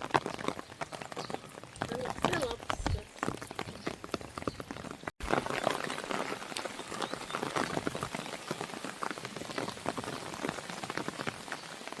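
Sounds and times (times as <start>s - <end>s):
fire crackling and popping: 0.0s - 12.0s.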